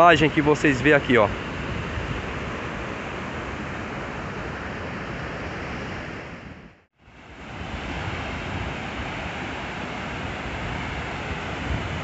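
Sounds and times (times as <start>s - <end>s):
water rushing over weir: 0.0s - 12.0s.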